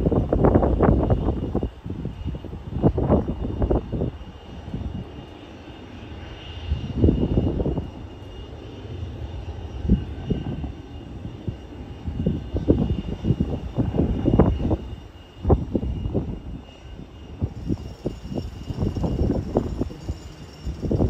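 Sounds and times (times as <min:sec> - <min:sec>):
jet engines rumbling: 0:00.0 - 0:21.0
wind buffeting microphone: 0:00.0 - 0:21.0.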